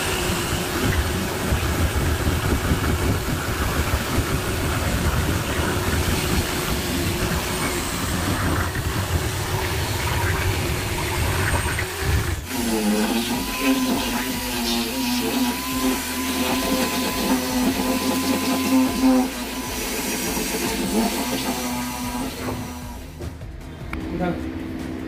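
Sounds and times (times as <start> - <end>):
electric drill boring into wood: 0.0 - 23.2.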